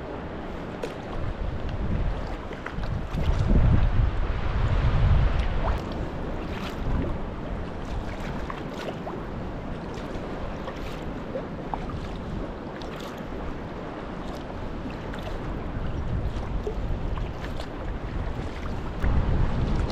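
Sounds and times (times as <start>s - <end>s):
water splashing around kayak: 0.0s - 19.9s
wind buffeting microphone: 0.0s - 19.9s.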